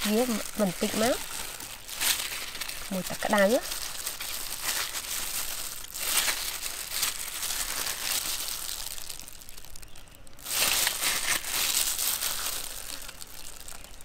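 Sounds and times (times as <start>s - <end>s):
plastic glove crinkling: 0.0s - 14.0s
wet wax honeycomb squishing: 0.0s - 14.0s.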